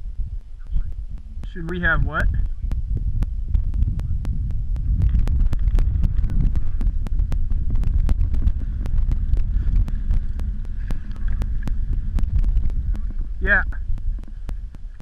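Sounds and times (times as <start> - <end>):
faint regular clicking: 0.0 - 15.0
wind buffeting microphone: 0.0 - 15.0.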